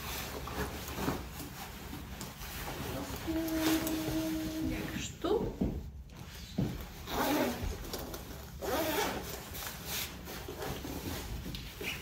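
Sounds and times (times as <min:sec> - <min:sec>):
clothing fabric rustling: 0:00.0 - 0:12.0.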